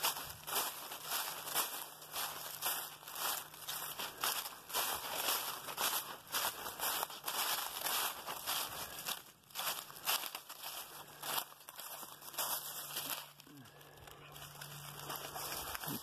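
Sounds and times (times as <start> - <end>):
footsteps crunching dry leaves: 0.0 - 16.0
leaves rustling: 0.0 - 16.0.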